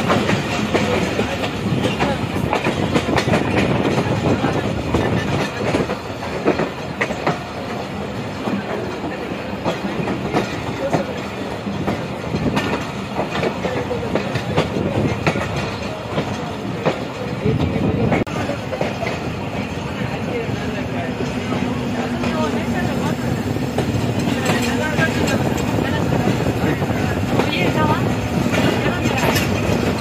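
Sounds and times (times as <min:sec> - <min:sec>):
train rumbling: 0:00.0 - 0:30.0
wheels clacking over rail joints: 0:00.0 - 0:30.0.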